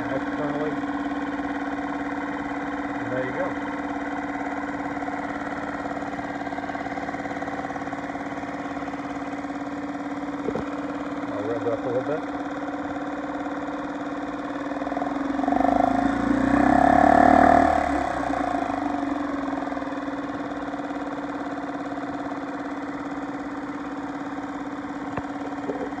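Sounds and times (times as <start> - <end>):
outboard motor revving and idling: 0.0 - 26.0.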